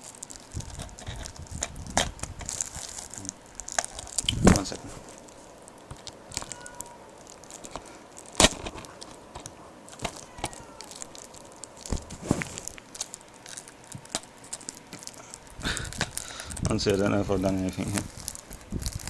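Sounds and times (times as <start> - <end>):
cellophane wrap crinkling: 0.0 - 19.0.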